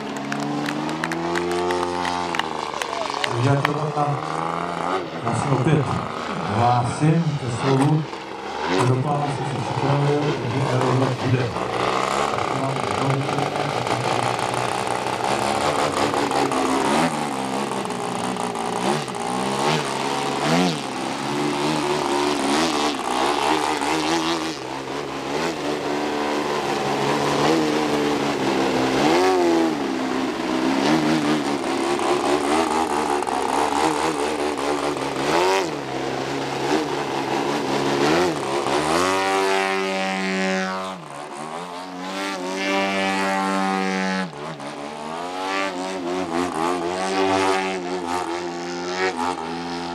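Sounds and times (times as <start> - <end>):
model airplane engine: 0.0 - 49.9.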